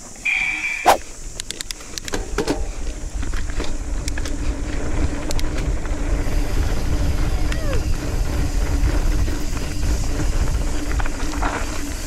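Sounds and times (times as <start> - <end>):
wind and tyre rumble: 0.0 - 12.0
bike rattling clicks: 1.0 - 12.0.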